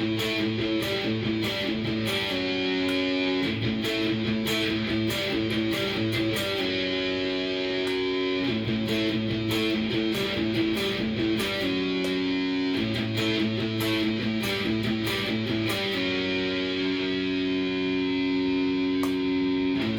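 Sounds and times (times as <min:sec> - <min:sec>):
electric guitar strumming chords: 0:00.0 - 0:19.9.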